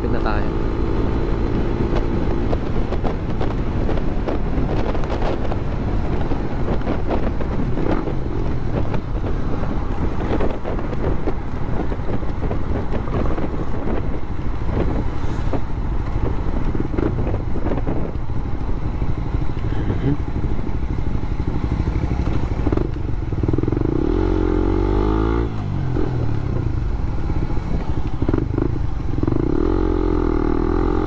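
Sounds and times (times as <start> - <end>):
motorcycle engine cruising: 0.0 - 31.0
wind buffeting microphone: 0.0 - 31.0.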